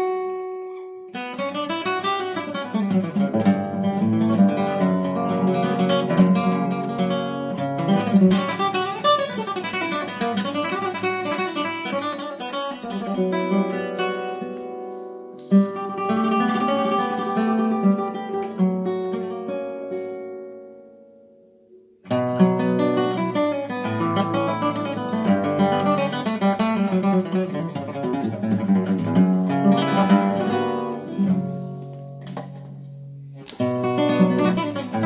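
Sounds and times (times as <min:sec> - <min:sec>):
flamenco classical guitar: 0:00.0 - 0:35.0.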